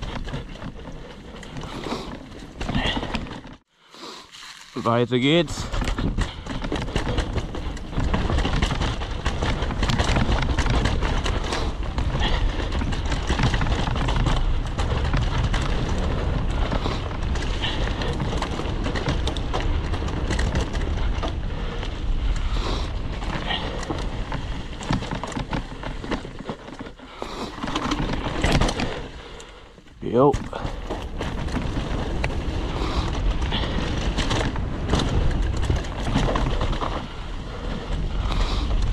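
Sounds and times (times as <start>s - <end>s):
bike clattering over bumps: 0.0s - 3.6s, 5.2s - 38.9s
bike tyres rolling over dirt and leaves: 0.0s - 38.9s
wind rumbling on microphone: 5.2s - 38.9s.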